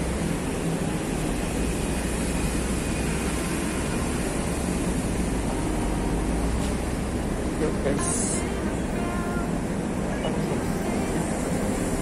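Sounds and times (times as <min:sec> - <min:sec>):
city road traffic hum: 0:00.0 - 0:12.0.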